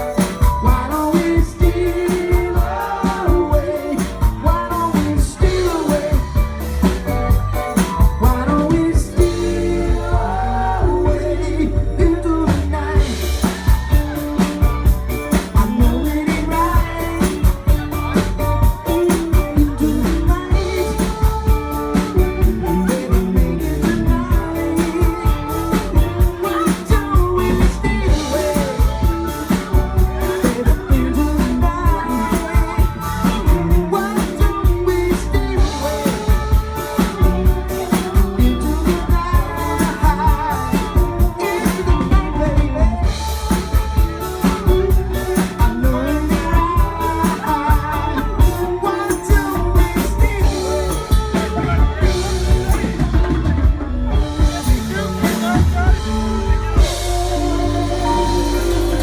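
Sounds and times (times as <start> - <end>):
live rock band playing: 0.0 - 59.0
person singing: 0.0 - 59.0.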